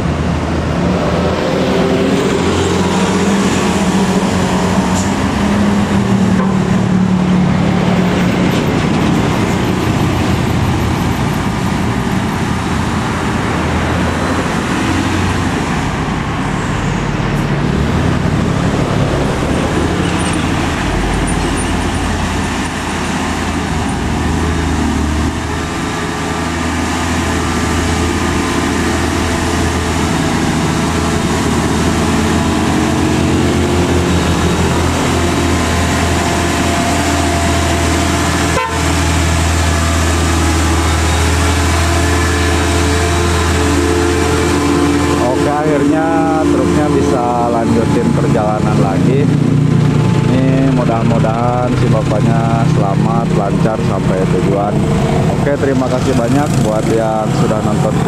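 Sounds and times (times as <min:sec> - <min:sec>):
diesel truck engine running: 0:00.0 - 0:58.0
road traffic: 0:00.0 - 0:58.0.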